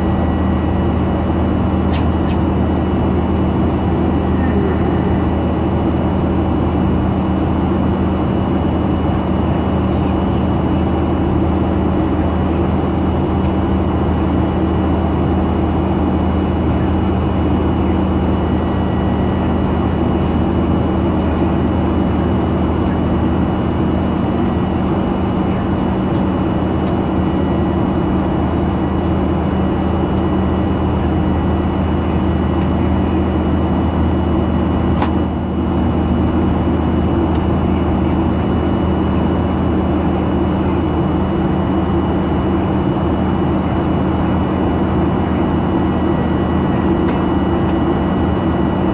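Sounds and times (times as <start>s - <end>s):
airplane cabin engine drone: 0.0s - 48.9s.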